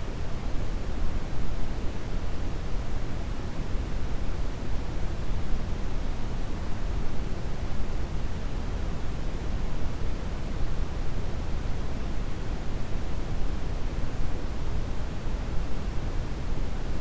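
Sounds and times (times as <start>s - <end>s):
brown noise hiss: 0.0s - 17.0s.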